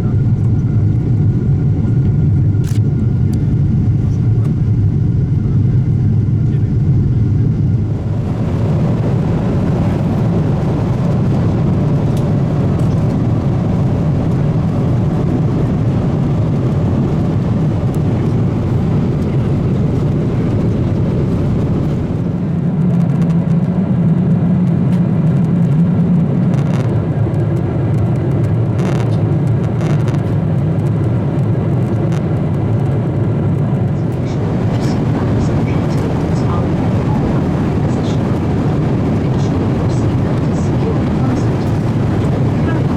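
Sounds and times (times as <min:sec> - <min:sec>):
airplane cabin rumble: 0:00.0 - 0:42.9.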